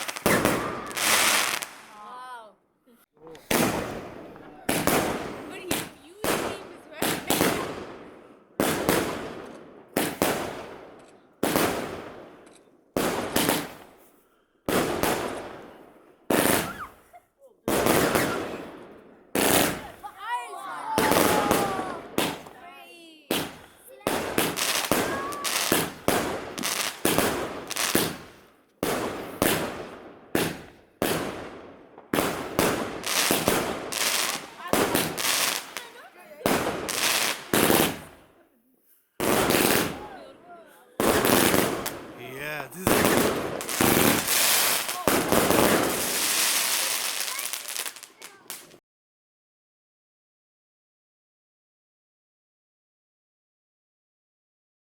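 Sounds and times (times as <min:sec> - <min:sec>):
fireworks bangs: 0:00.0 - 0:02.0, 0:03.3 - 0:14.0, 0:14.7 - 0:17.0, 0:17.7 - 0:38.3, 0:39.2 - 0:48.8.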